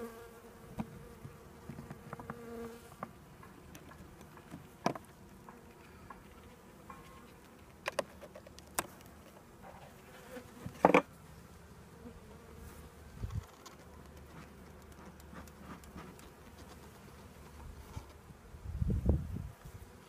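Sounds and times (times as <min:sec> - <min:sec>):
honeybees buzzing: 0:00.0 - 0:07.9, 0:09.0 - 0:20.0.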